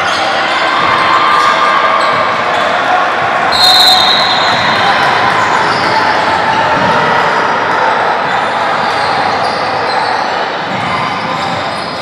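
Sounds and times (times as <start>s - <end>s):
echoing basketball game noise: 0.0s - 12.0s.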